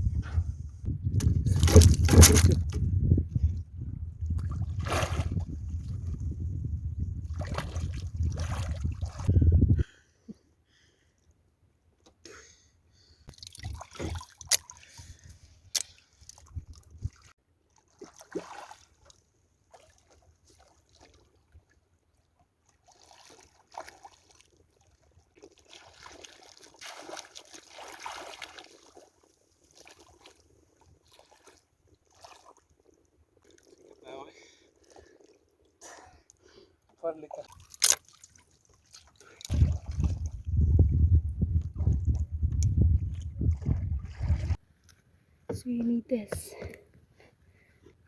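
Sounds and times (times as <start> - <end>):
water sloshing and trickling: 0.8 - 9.4, 13.3 - 46.8.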